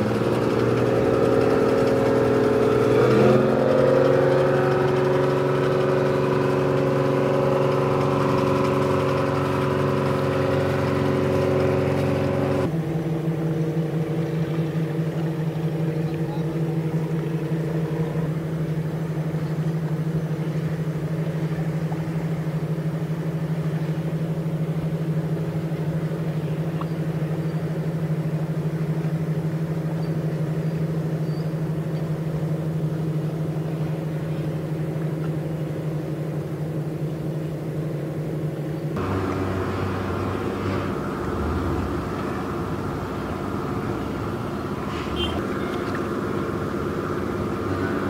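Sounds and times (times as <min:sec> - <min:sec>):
boat engine droning: 0:00.0 - 0:48.0
different engine running: 0:00.0 - 0:48.0.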